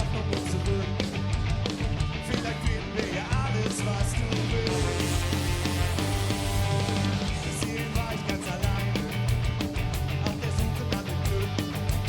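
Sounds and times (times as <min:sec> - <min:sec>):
rock band playing live: 0:00.0 - 0:12.0.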